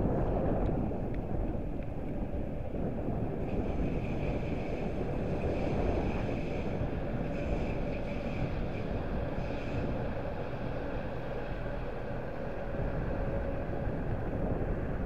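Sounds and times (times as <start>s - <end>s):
train high whine: 0.0s - 15.0s
wind buffeting microphone: 0.0s - 15.0s.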